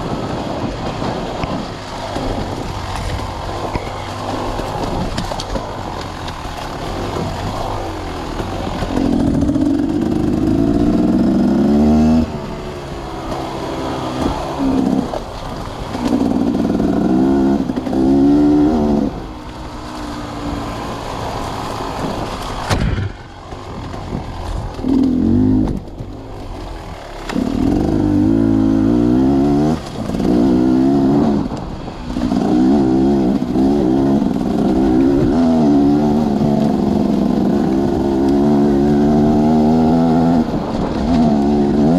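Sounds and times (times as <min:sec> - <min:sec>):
sawmill machinery engine: 0:00.0 - 0:41.9.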